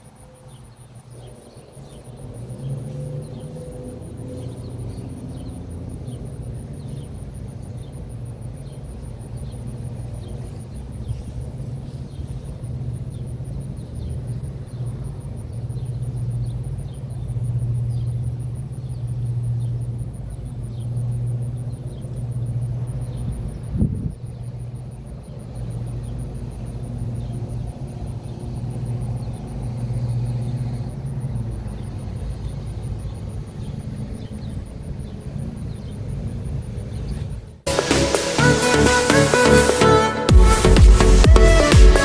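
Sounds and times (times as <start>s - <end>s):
air conditioner unit humming: 0.0s - 37.7s
crickets chirping: 0.0s - 42.0s
faint higher hum: 0.0s - 42.0s.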